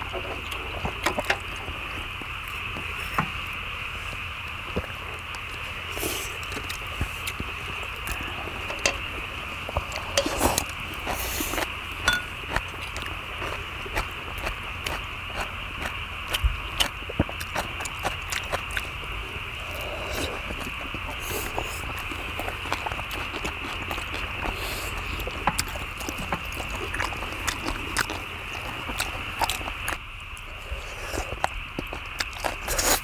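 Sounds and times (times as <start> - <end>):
chewing: 0.0 - 33.0.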